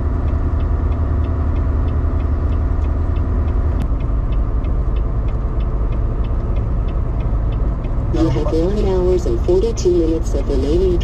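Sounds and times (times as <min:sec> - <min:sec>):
faint regular ticking: 0:00.0 - 0:11.0
truck engine and tyres rumbling: 0:00.0 - 0:11.0.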